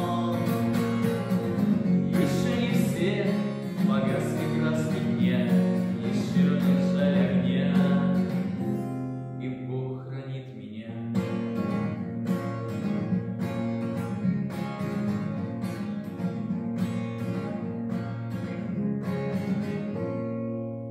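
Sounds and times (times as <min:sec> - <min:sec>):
acoustic guitar chords: 0:00.0 - 0:20.9.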